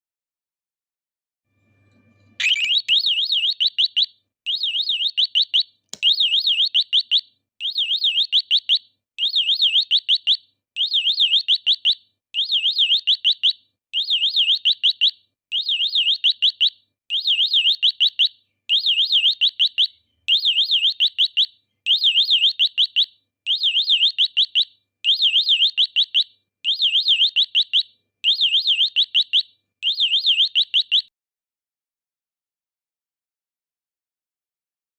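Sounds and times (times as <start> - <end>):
electronic bird chirp trill: 2.4 - 31.1.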